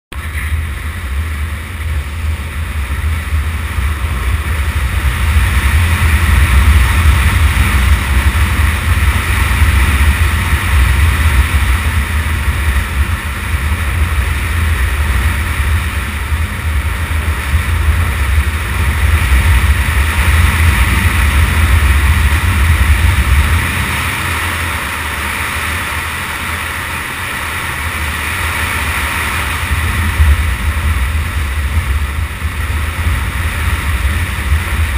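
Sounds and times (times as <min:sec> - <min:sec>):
motorcycle engine: 0:00.1 - 0:34.9
wind rumble on microphone: 0:00.1 - 0:34.9.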